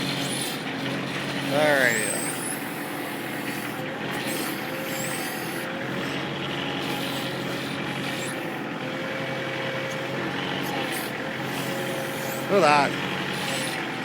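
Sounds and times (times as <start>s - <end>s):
thin hydraulic whine: 0.0s - 14.0s
tractor diesel engine running: 0.0s - 14.0s.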